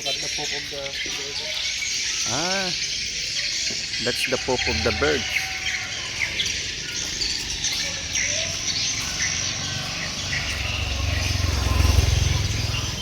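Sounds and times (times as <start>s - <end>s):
birds chirping high calls: 0.0s - 13.0s.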